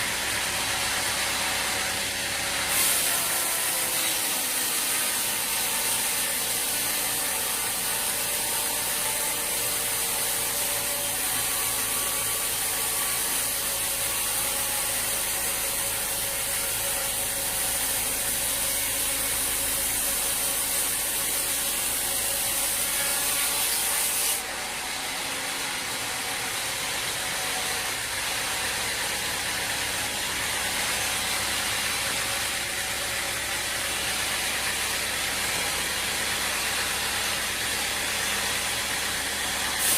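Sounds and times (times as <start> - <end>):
saw and wood-handling noise: 0.0 - 39.9.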